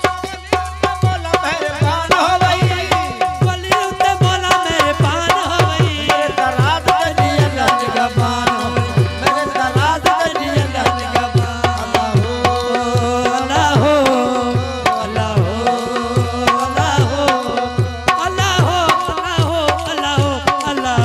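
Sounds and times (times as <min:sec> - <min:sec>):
hand drum beating quick rhythm: 0:00.0 - 0:21.0.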